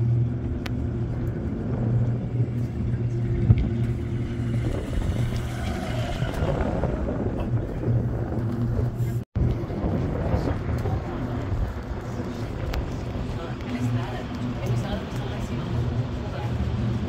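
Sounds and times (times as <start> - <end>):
cable car cabin humming: 0.0 - 17.0.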